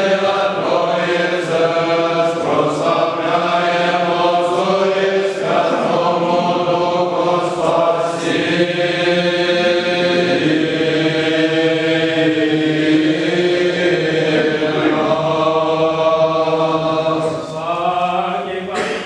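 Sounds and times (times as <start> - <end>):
liturgical chant in long notes: 0.0 - 19.0.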